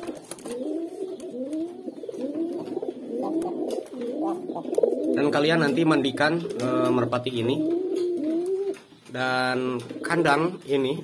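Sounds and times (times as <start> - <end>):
pigeon cooing: 0.0 - 10.4.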